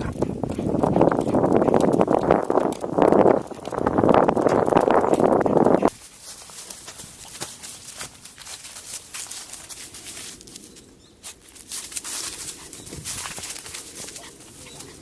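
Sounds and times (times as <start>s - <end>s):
footsteps on trail: 0.0s - 15.0s.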